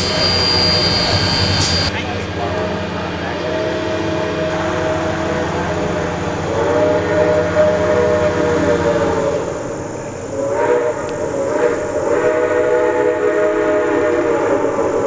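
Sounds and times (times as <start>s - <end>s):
locomotive chime whistle blasts: 0.0s - 2.0s, 3.4s - 15.0s
rumble of passing train: 0.0s - 15.0s.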